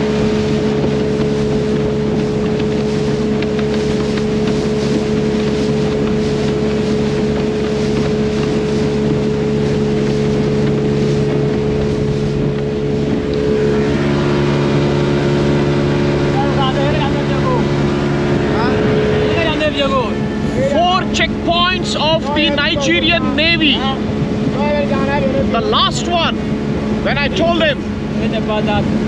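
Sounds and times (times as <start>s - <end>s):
motorboat engine running: 0.0s - 29.0s
water rushing past hull: 0.0s - 29.0s
wind on microphone: 0.0s - 29.0s.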